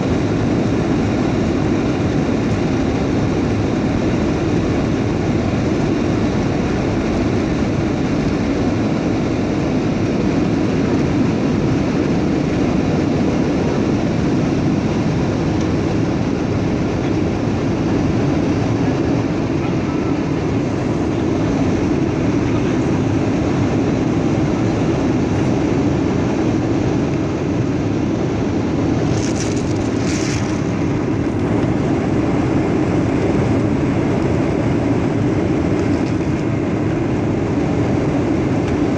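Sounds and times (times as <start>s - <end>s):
airliner cabin engine roar: 0.0s - 38.9s.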